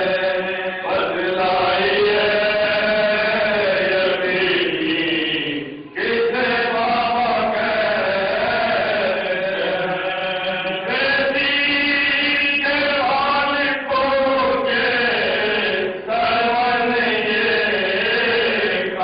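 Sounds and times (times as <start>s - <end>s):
men chanting unaccompanied: 0.0s - 19.0s.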